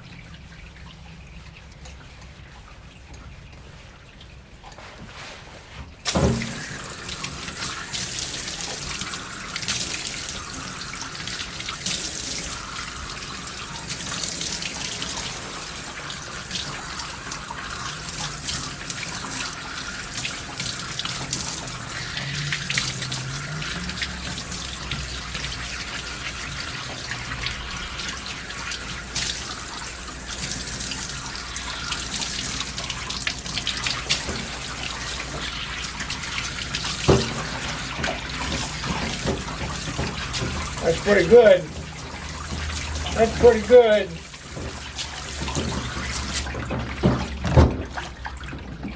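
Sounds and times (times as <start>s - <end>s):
water running from tap: 0.0s - 4.7s, 6.0s - 48.9s.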